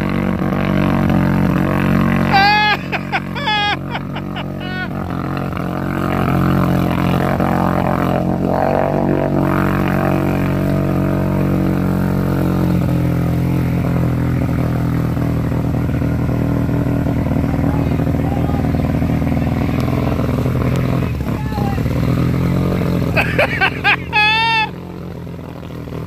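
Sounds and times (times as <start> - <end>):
atv engine droning: 0.0 - 26.0.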